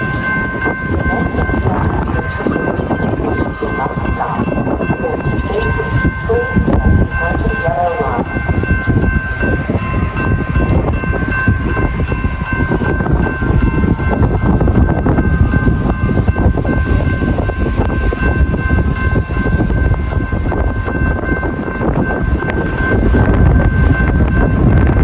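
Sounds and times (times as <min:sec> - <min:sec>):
train rumbling past: 0:00.0 - 0:25.0.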